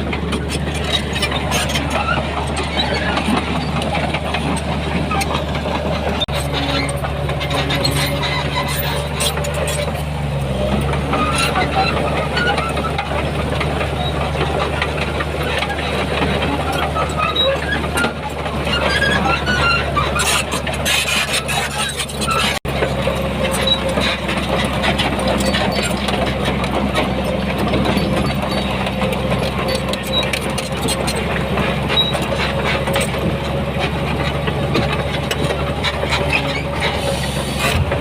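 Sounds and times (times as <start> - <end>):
heavy diesel machinery running: 0.0 - 38.0
squeaks and clatter: 0.0 - 38.0.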